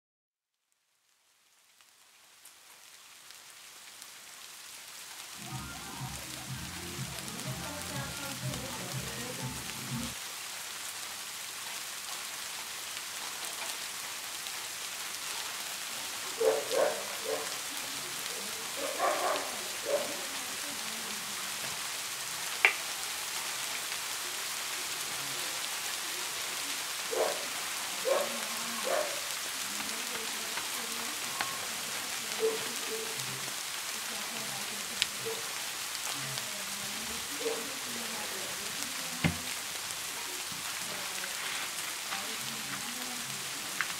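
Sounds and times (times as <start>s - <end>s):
steady rain falling: 0.7s - 43.9s.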